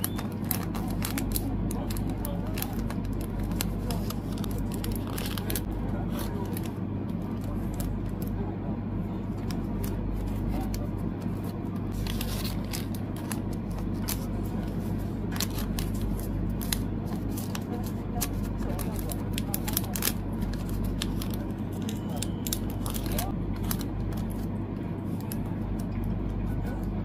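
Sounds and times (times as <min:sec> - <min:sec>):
plastic sleeves crinkling: 0:00.0 - 0:08.3, 0:09.3 - 0:24.5
low hum: 0:00.0 - 0:27.0.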